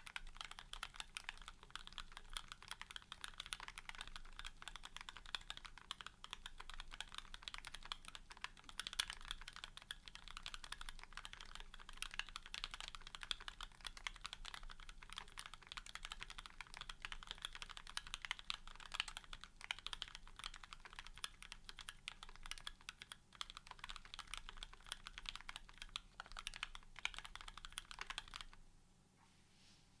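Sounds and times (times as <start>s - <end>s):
fast typing on mechanical keyboard: 0.0s - 28.6s.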